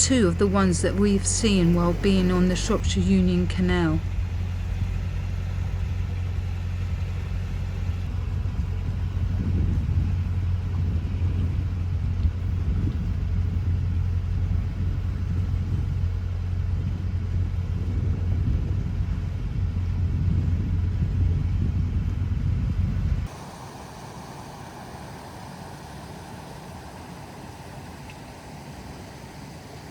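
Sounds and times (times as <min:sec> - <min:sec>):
boat engine rumbling: 0:00.0 - 0:29.9.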